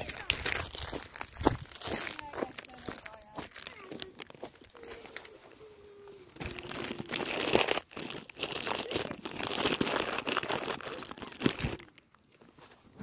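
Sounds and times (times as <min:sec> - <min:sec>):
crisp packet crinkling: 0:00.0 - 0:05.5, 0:06.3 - 0:12.5.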